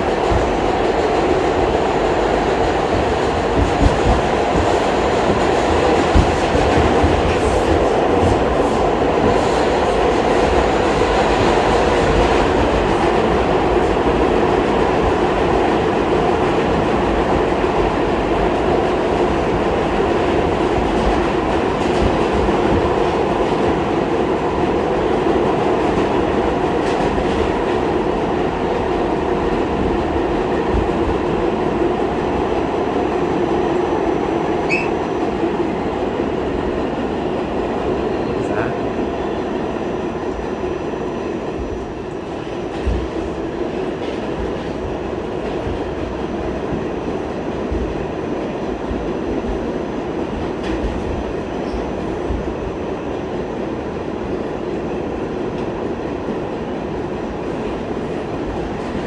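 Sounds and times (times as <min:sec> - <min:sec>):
subway car rumbling on rails: 0:00.0 - 0:59.0.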